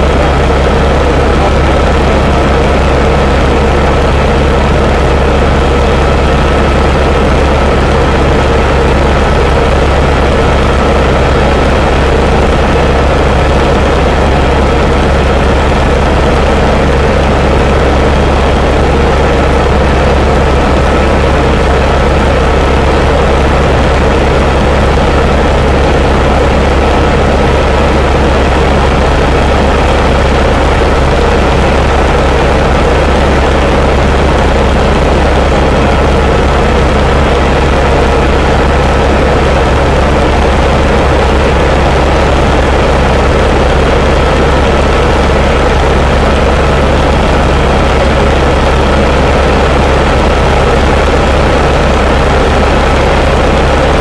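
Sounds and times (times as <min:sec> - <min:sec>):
helicopter rotor and engine drone: 0:00.0 - 0:54.0.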